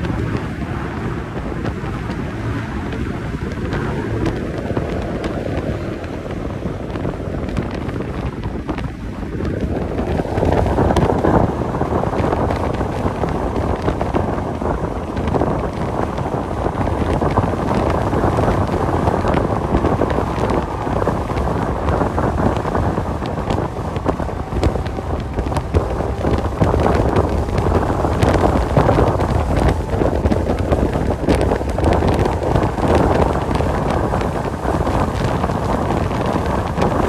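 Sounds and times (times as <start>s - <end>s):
truck road and wind noise: 0.0s - 37.0s.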